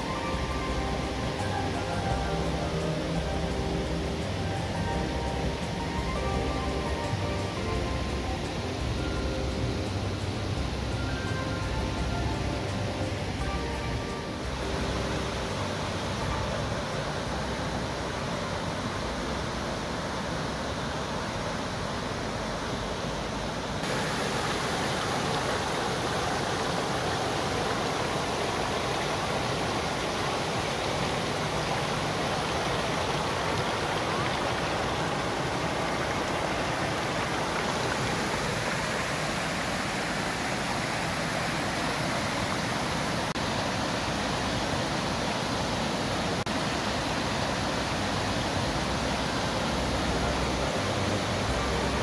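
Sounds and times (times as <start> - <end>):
river water rushing over rapids: 0.0 - 52.0.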